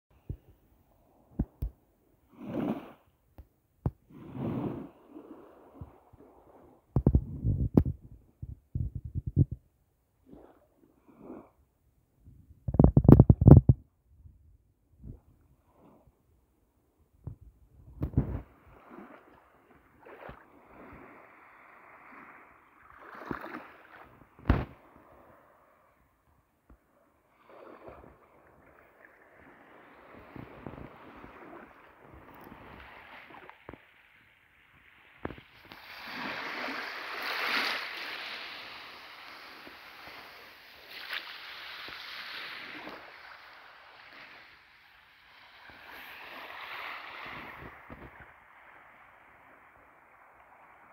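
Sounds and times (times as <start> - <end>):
small waves washing onto shore: 0.2 - 3.1, 3.9 - 8.5, 10.2 - 11.6, 15.1 - 16.2, 17.2 - 50.9.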